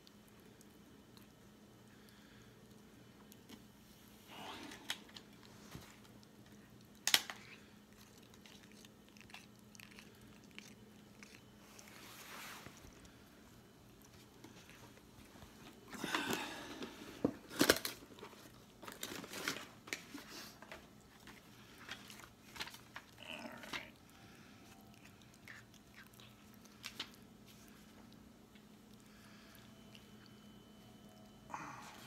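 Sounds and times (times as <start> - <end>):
cat chewing on hair: 0.0 - 31.6.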